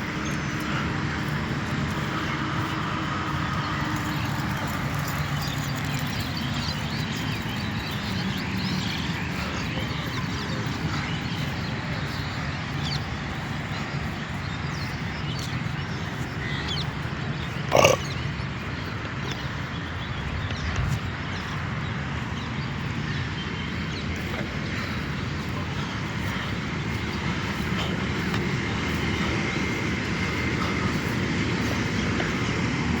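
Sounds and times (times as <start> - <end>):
outdoor background rumble: 0.0 - 33.0.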